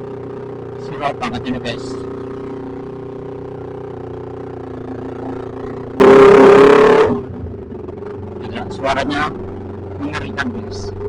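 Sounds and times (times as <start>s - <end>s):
motorcycle engine idling: 0.0s - 11.0s
rasping exhaust throttle blip: 0.8s - 11.0s.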